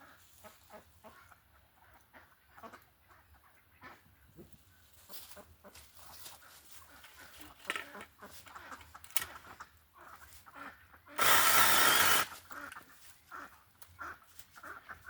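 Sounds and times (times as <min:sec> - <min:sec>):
faint chicken clucking: 0:00.0 - 0:11.2, 0:12.6 - 0:15.0.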